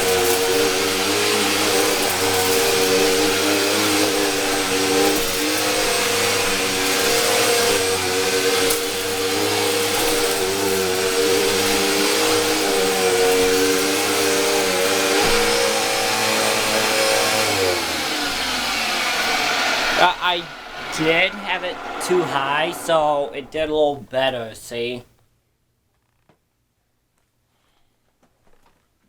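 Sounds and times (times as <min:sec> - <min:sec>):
vacuum cleaner motor running: 0:00.0 - 0:23.9.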